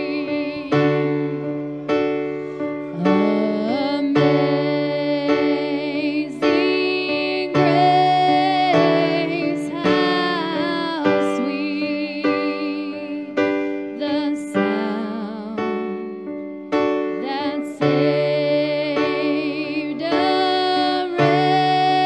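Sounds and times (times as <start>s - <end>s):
person singing long notes: 0.0s - 1.6s, 2.7s - 16.2s, 17.2s - 22.0s
sustained keyboard chords: 0.0s - 22.0s.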